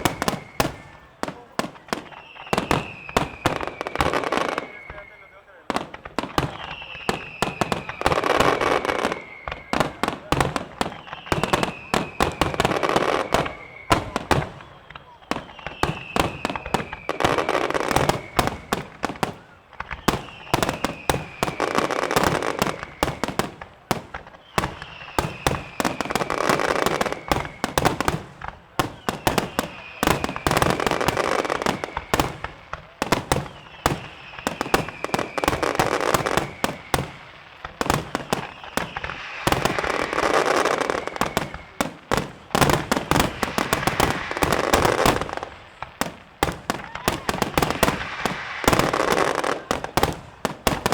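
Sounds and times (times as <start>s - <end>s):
falling firework whistle: 0.0s - 50.9s
fireworks bangs and cracks: 0.0s - 50.9s
rushing firework crackle: 0.0s - 50.9s.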